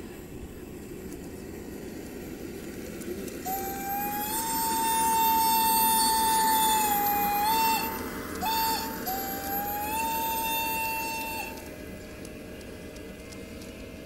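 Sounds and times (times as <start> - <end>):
model locomotive motor whine: 0.0 - 14.0
wheels rumbling on rails: 0.0 - 14.0.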